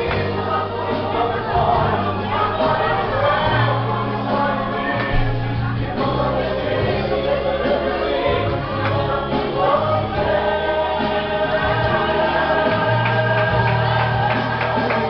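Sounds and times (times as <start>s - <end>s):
gospel group singing: 0.0s - 15.0s
steady bass line: 0.0s - 15.0s.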